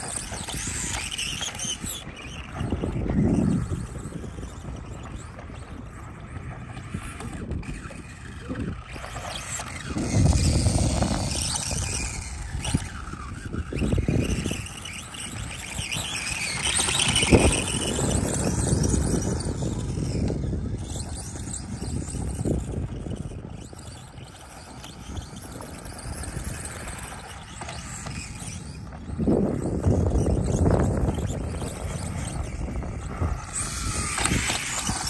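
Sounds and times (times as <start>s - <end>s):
electric motor whining: 0.0s - 35.0s
wind gusting on microphone: 0.0s - 35.0s.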